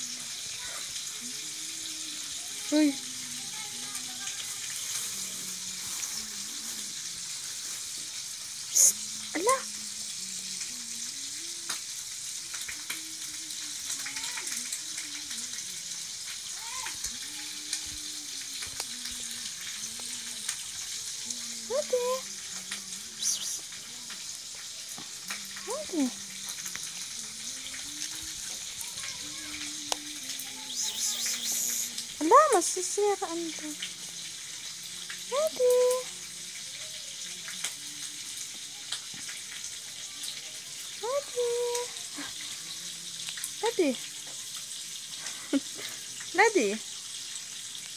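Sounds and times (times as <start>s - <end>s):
steady sizzling hiss: 0.0s - 47.9s.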